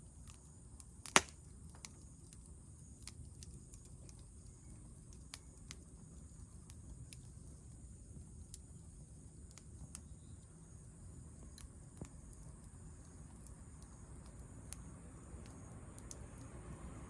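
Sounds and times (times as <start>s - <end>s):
campfire wood crackling: 0.0s - 17.0s.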